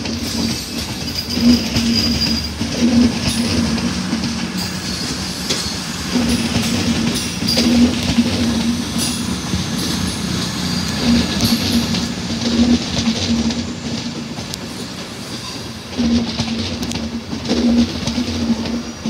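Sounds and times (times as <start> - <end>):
train rumble and hum: 0.0 - 19.0
train wheels clacking over rail joints: 0.0 - 19.0.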